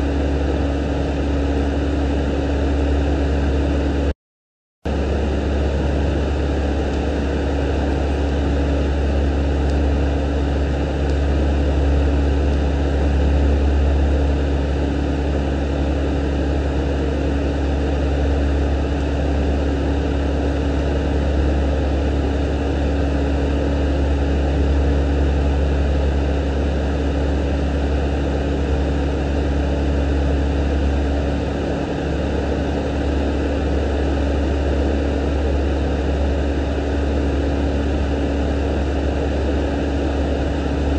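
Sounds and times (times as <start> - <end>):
low hum: 4.9 - 40.9.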